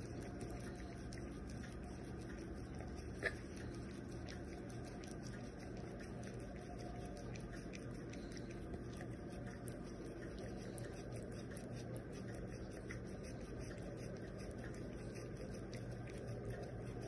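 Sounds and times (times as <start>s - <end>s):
dog lapping and licking: 0.0s - 17.0s
faint steady hum: 0.0s - 17.0s.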